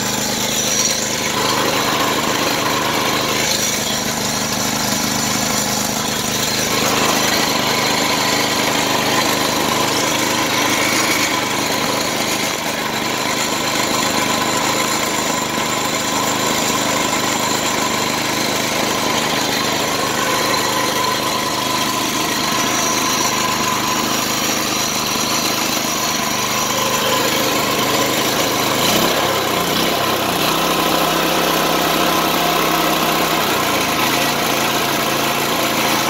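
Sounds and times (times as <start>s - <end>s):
mower engine running: 0.0s - 36.0s.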